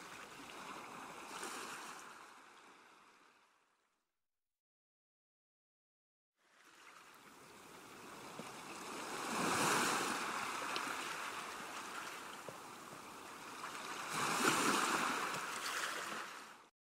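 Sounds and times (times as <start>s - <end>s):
ocean waves breaking on beach: 0.0s - 3.5s, 6.4s - 16.7s.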